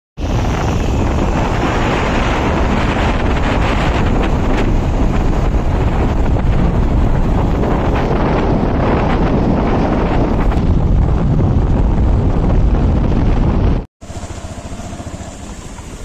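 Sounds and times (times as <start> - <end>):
low rumble of moving vehicle: 0.2 - 16.0
wind buffeting microphone: 0.2 - 16.0.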